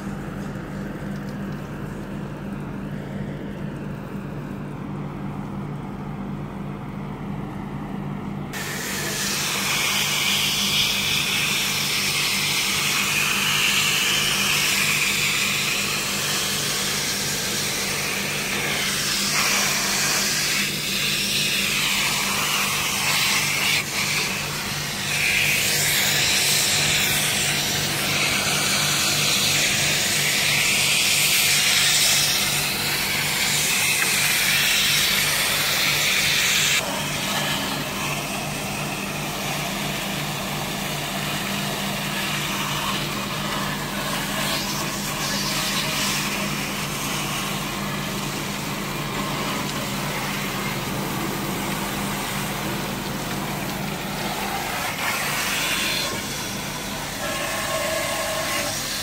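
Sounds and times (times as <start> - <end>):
engine-like hum: 0.0 - 59.0.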